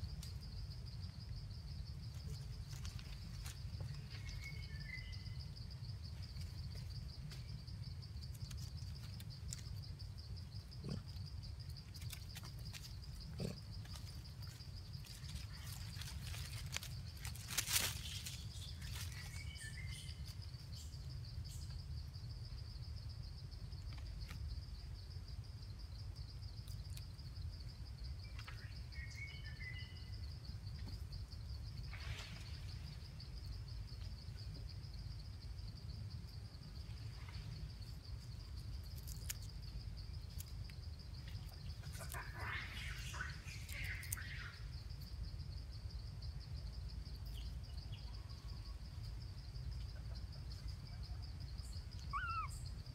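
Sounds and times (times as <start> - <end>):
insect chirps: 0.0 - 52.9.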